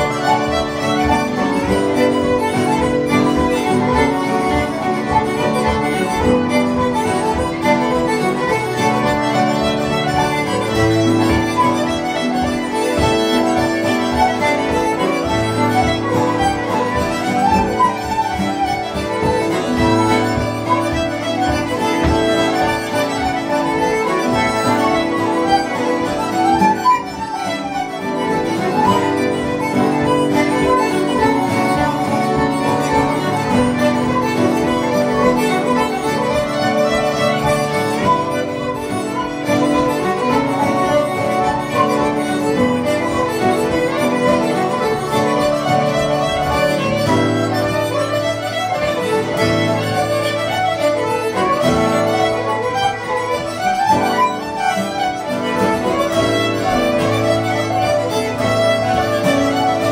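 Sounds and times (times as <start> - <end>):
acoustic guitar: 0.0 - 59.9
fiddles: 0.0 - 59.9
flute: 0.0 - 59.9
harmonica: 0.0 - 59.9
keyboard: 0.0 - 59.9.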